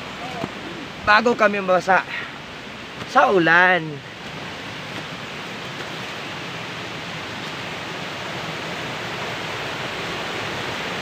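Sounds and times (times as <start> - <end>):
rain on foliage: 0.0 - 11.0.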